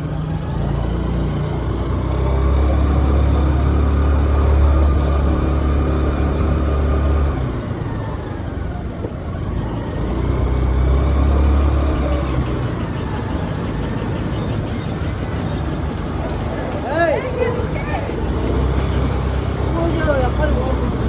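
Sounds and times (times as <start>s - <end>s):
road noise: 0.0s - 21.0s
vehicle engine rumbling: 0.0s - 21.0s.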